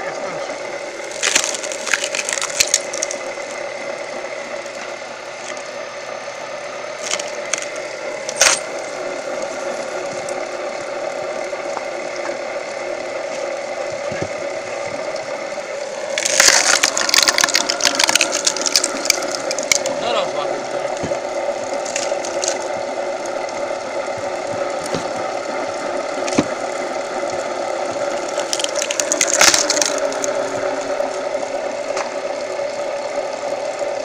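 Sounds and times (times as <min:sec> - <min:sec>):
firewood machine humming: 0:00.0 - 0:34.0.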